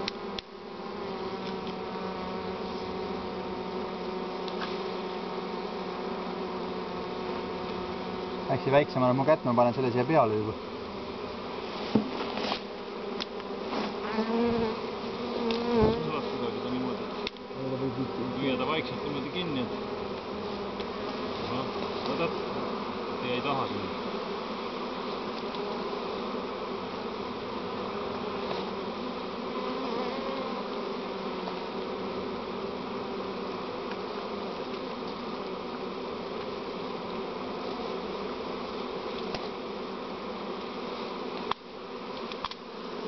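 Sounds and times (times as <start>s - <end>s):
bees buzzing: 0.0s - 43.0s.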